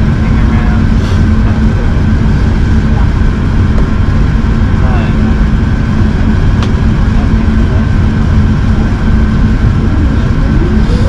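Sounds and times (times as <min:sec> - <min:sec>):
aircraft engines and airflow rush: 0:00.0 - 0:11.0
steady cabin hum: 0:00.0 - 0:11.0.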